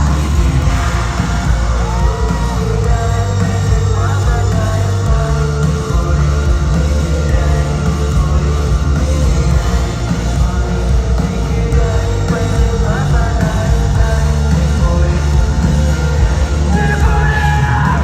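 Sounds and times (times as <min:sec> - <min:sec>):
distorted guitars: 0:00.0 - 0:18.0
drums: 0:00.0 - 0:18.0
heavy bass: 0:00.0 - 0:18.0.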